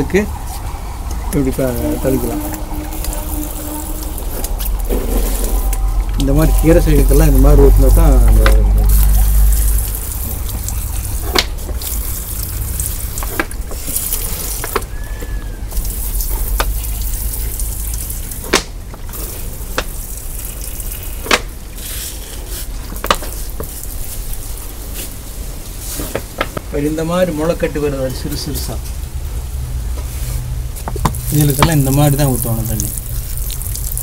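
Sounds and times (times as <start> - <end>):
water spraying onto leaves: 0.0 - 26.2, 26.8 - 34.0.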